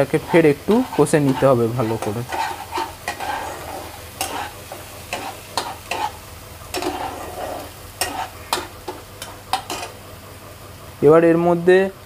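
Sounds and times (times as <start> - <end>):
spatula scraping a pan: 0.0 - 10.0
masala sizzling in oil: 0.0 - 12.0.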